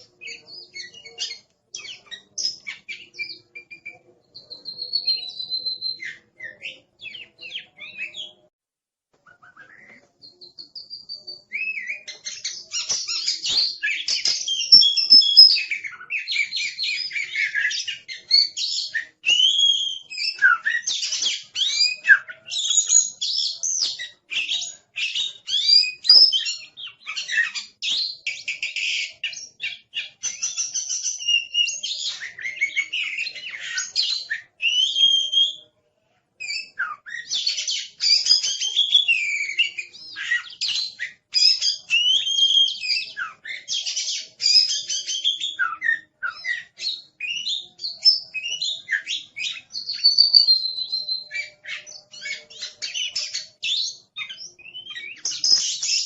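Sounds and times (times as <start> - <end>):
bird singing whistles and chirps: 0.0 - 8.5, 9.3 - 35.8, 36.4 - 56.0.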